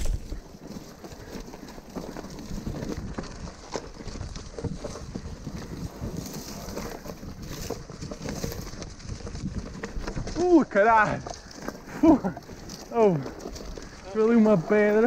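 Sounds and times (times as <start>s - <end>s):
bike clattering: 0.0s - 15.0s
tyres crunching over stones: 0.0s - 15.0s.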